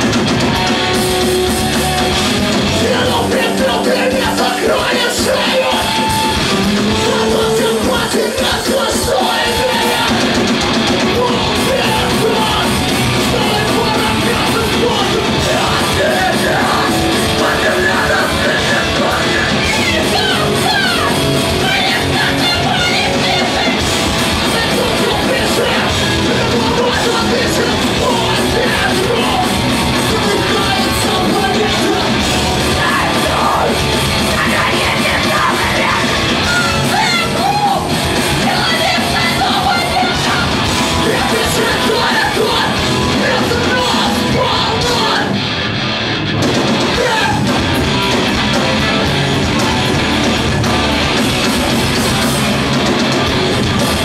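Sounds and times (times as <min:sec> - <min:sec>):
punk rock band playing: 0:00.0 - 0:54.0
shouted vocals: 0:01.6 - 0:45.5, 0:46.8 - 0:50.1.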